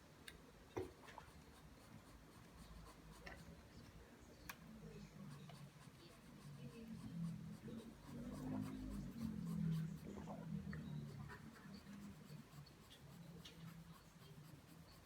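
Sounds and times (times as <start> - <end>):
pencil scratching on paper: 1.2 - 3.7, 5.2 - 15.0.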